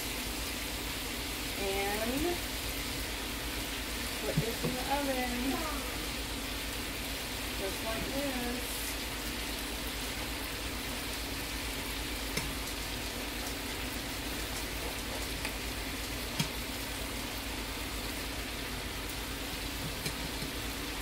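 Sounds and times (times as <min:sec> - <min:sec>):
food sizzling in a skillet: 0:00.0 - 0:21.0.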